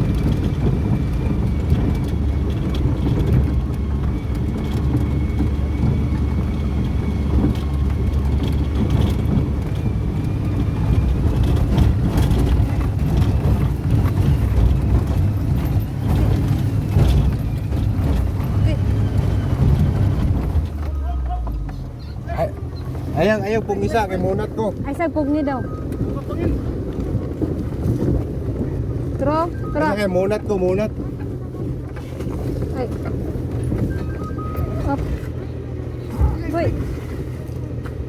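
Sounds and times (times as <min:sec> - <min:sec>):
wind buffeting microphone: 0:00.0 - 0:20.8, 0:21.8 - 0:38.0
engine rumbling: 0:00.0 - 0:38.0.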